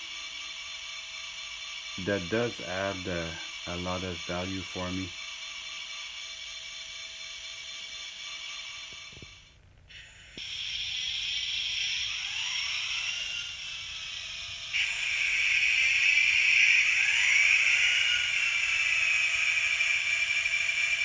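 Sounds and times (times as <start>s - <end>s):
model locomotive diesel engine sound: 0.0s - 21.0s.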